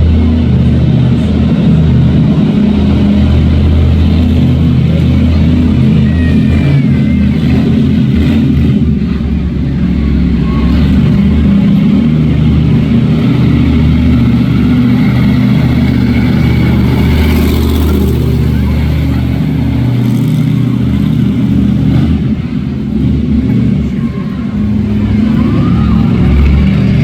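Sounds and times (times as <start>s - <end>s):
monster truck engine running: 0.0s - 27.0s.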